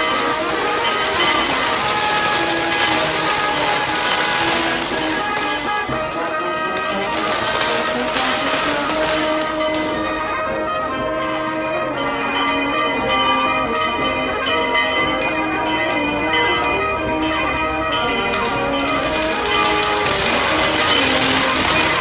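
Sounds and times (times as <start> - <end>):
church bells ringing: 0.0 - 22.0
music: 0.0 - 22.0.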